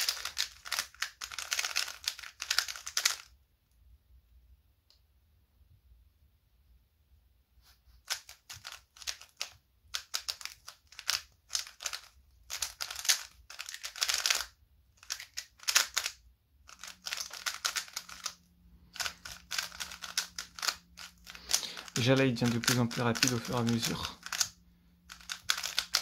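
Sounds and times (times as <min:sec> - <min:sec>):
plastic puzzle cube clicking: 0:00.0 - 0:03.4, 0:08.1 - 0:26.0.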